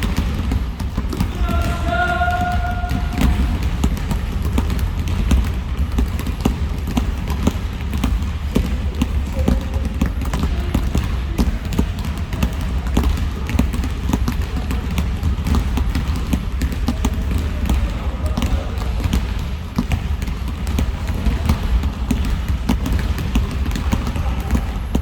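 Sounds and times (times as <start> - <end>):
basketballs bouncing on gym floor: 0.0 - 25.0.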